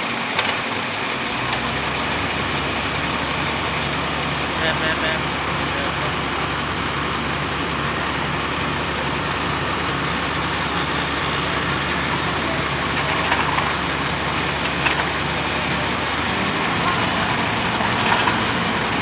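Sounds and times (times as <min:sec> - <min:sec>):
concrete pump truck engine running: 0:00.0 - 0:19.0.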